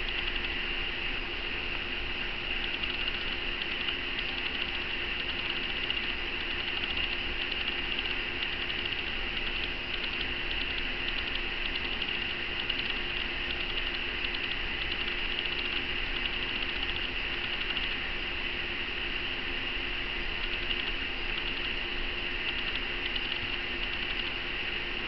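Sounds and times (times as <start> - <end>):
machine hum and hiss: 0.0 - 25.0.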